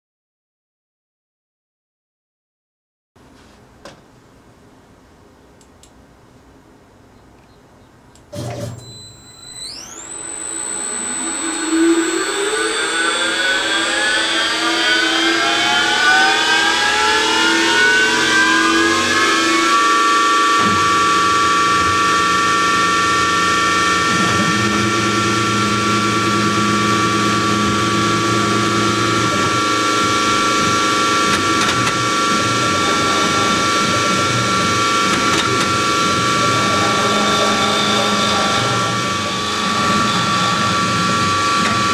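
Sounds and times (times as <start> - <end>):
low hum: 6.6 - 41.9
mill spindle whine rising: 8.2 - 41.9.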